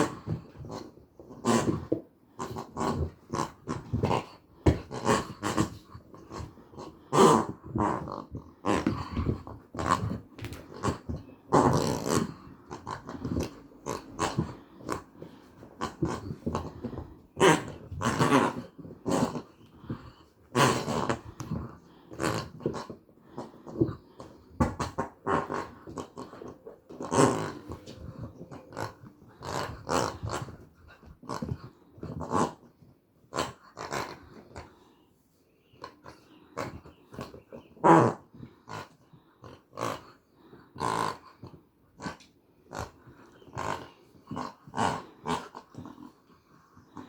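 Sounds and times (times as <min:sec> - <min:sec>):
puppy growling: 0:00.0 - 0:34.9, 0:35.7 - 0:47.0.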